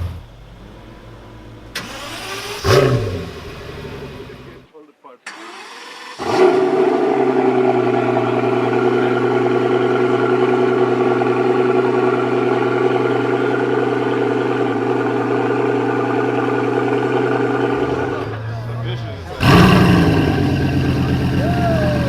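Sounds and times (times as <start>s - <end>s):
car engine idling: 0.0s - 4.7s, 5.4s - 22.0s.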